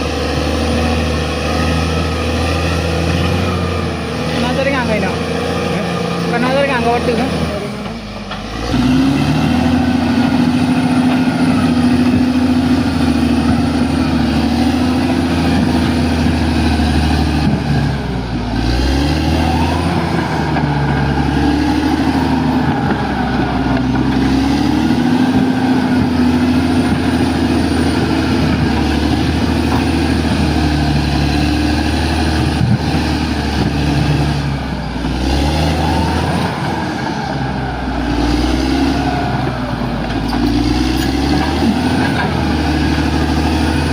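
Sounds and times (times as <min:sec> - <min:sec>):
diesel engine labouring: 0:00.0 - 0:43.9.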